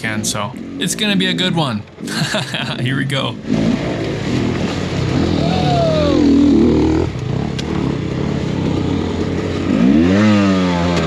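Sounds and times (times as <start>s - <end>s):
dirt bike engine revving: 0.2s - 11.0s.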